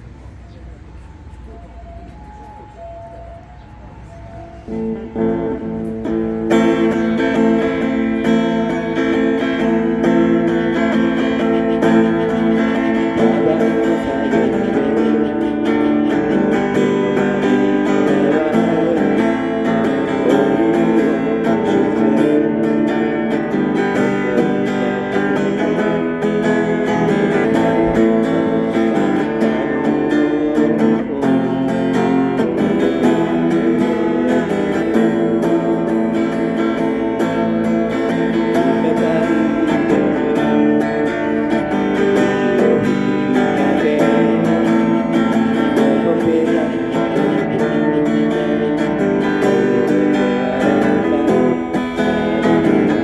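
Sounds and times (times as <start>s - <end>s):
acoustic guitar strumming: 1.2s - 53.0s.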